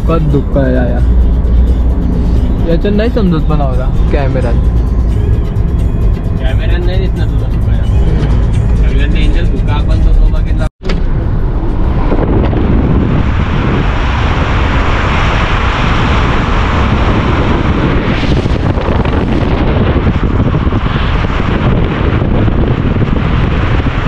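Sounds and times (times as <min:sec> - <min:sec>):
wind rushing on microphone: 0:00.0 - 0:24.0.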